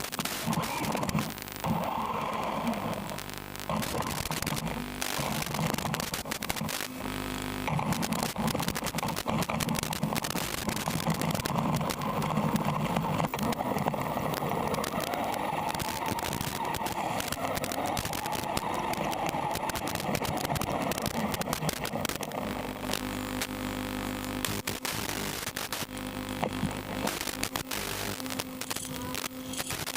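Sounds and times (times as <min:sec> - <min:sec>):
crackling static: 0:00.0 - 0:29.9
rc car motor and gear whine: 0:00.6 - 0:25.3, 0:26.2 - 0:29.9.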